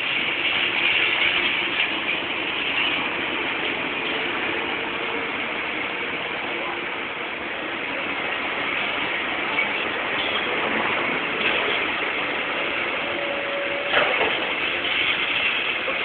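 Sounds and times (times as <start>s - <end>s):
demolition machinery rattling and grinding: 0.0s - 16.0s.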